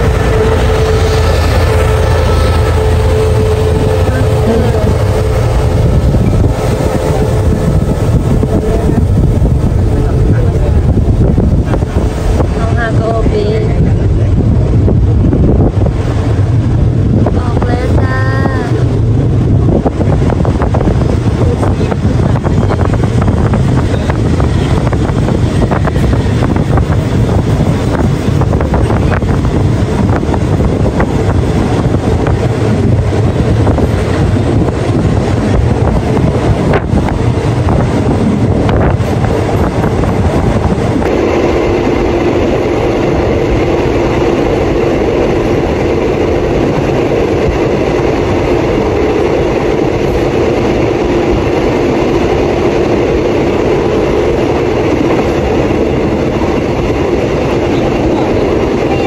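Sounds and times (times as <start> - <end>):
steady hum inside carriage: 0.0 - 59.0
train wheels rumbling on rail: 0.0 - 59.0
wind through open window: 0.0 - 59.0.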